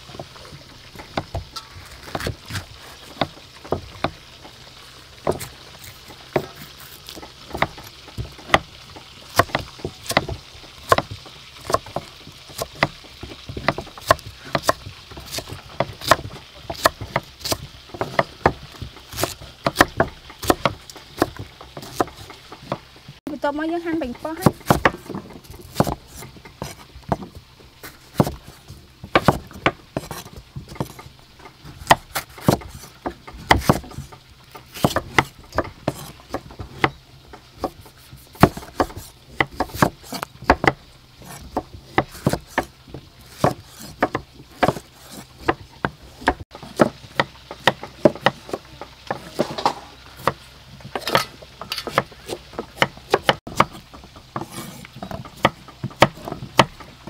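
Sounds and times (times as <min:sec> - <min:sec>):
knife chopping on wooden board: 0:00.5 - 0:04.2, 0:05.2 - 0:22.8, 0:24.2 - 0:37.0, 0:37.6 - 0:56.9.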